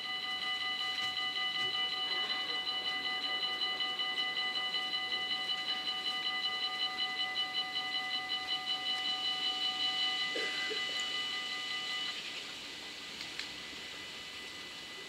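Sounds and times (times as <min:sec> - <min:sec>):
level crossing warning bells: 0:00.0 - 0:12.2.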